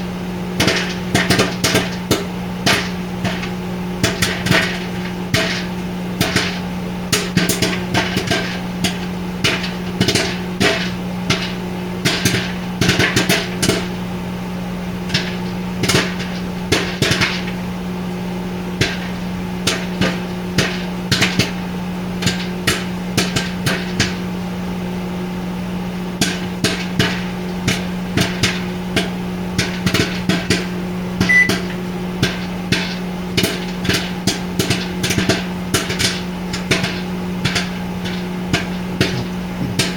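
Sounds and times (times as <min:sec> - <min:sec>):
microwave oven hum: 0:00.0 - 0:39.9
popcorn popping: 0:00.5 - 0:14.0, 0:15.0 - 0:17.6, 0:18.6 - 0:24.4, 0:26.1 - 0:39.9.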